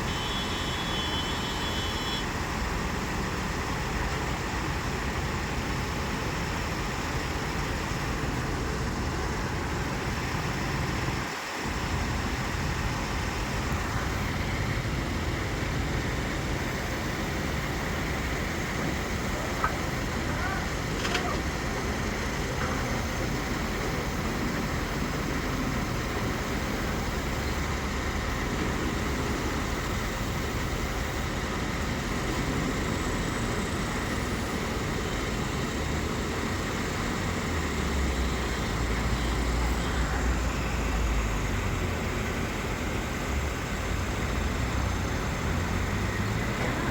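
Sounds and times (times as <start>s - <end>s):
heavy engine rumble: 0.0s - 46.9s.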